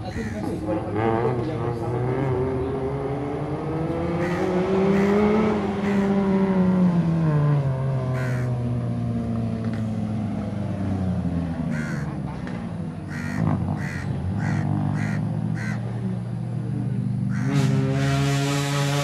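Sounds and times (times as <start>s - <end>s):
car engine under throttle: 0.0s - 19.0s.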